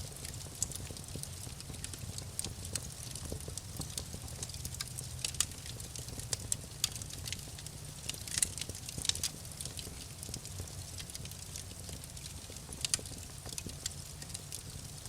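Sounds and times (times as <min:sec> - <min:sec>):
low rumble of burning fire: 0:00.0 - 0:15.0
wood fire crackling: 0:00.0 - 0:15.0.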